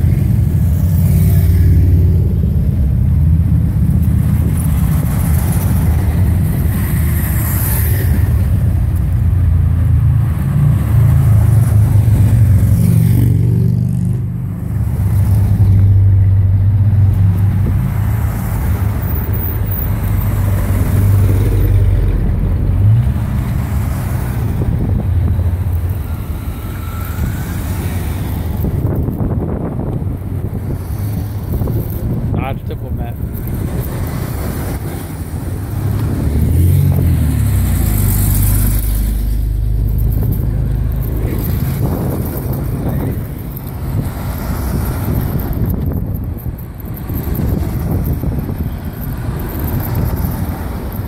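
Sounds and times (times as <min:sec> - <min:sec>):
motorcycle and car engines rumbling: 0:00.0 - 0:51.0.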